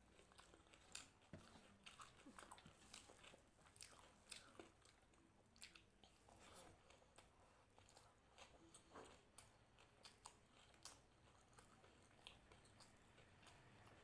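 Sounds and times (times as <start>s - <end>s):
chewing crunchy food: 0.0s - 14.0s.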